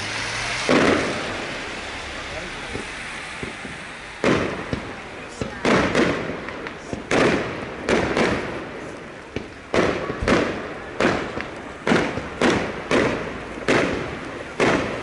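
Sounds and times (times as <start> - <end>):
fireworks bursting with echoes: 0.0 - 15.0.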